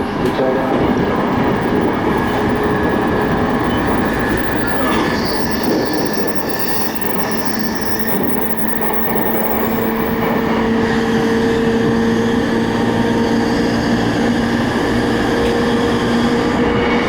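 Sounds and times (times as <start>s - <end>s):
train motor whine: 0.0s - 17.0s
train wheels rumbling on rails: 0.0s - 17.0s.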